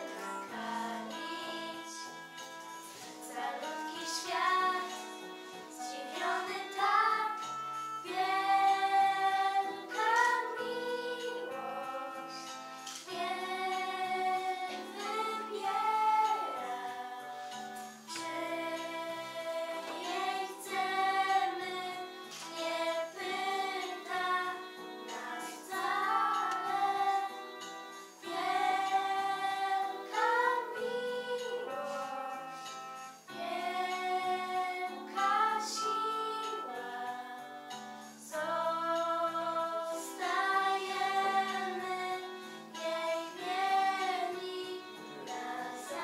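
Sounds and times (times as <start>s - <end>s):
girls singing together: 0.0s - 2.2s, 2.8s - 32.7s, 33.3s - 46.0s
instrumental accompaniment: 0.0s - 46.0s.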